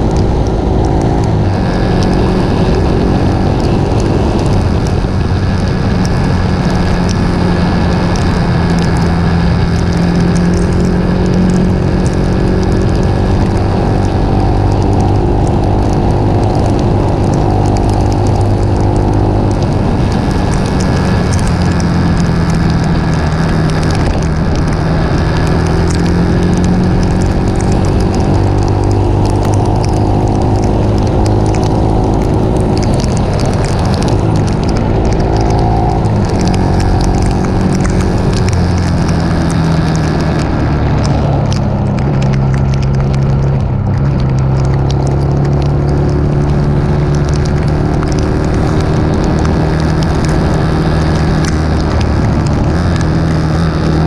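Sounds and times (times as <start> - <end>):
motorcycle engine running: 0.0 - 54.0
wind and rain on microphone: 0.0 - 54.0.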